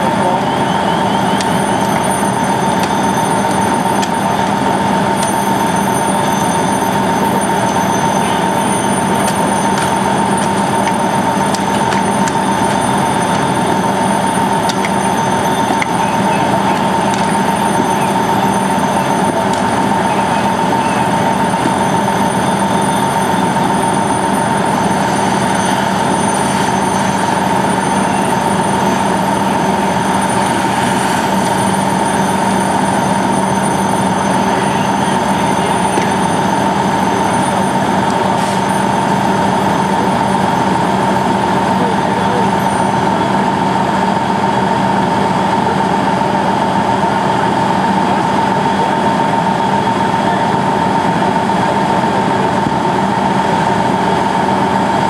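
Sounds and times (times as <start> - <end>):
fire engine pump drone: 0.0 - 55.0
steady whine: 0.0 - 55.0.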